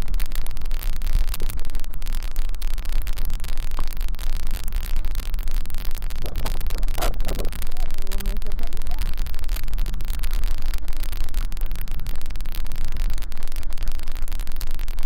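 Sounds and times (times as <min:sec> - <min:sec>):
microphone crackle: 0:00.0 - 0:15.0.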